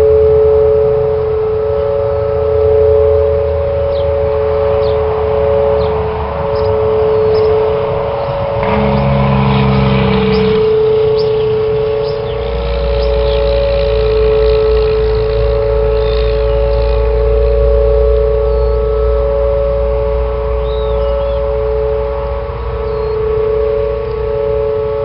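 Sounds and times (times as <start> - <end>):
low vehicle rumble: 0.0 - 25.0
two-tone siren wail: 0.0 - 25.0
vehicle engine hum: 0.0 - 25.0.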